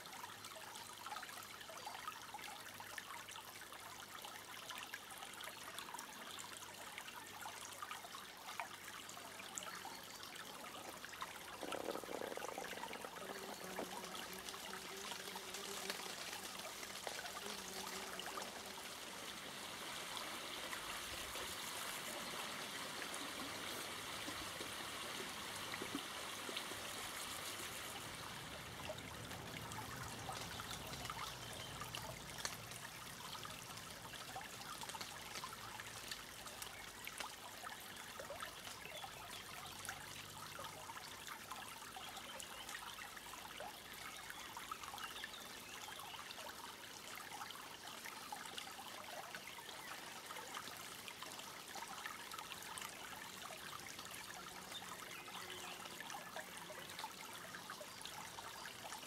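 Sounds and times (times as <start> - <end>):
brook trickling over stones: 0.0 - 59.0.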